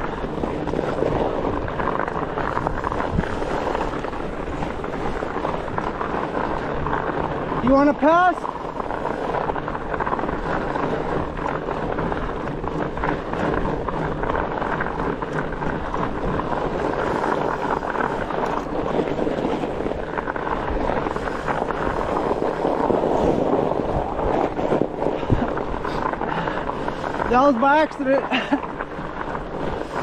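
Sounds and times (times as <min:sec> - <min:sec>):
bike tyres rolling on snow: 0:00.0 - 0:30.0
wind on microphone: 0:00.0 - 0:30.0.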